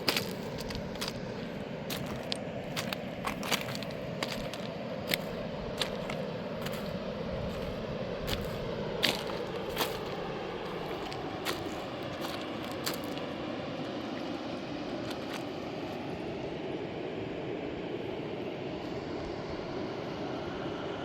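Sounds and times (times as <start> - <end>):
rushing river roar: 0.0 - 19.1.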